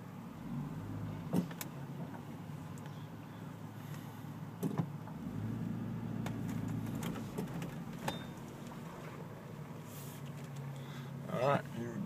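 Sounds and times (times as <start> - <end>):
car engine drone in cabin: 0.0 - 12.0.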